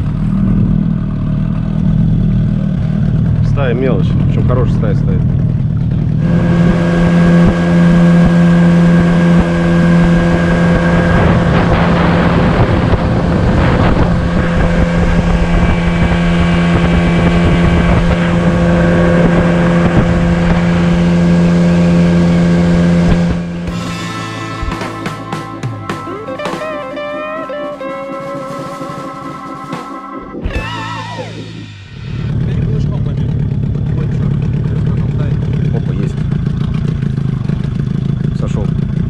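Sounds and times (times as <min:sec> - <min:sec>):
outboard motor drone: 0:00.0 - 0:39.0.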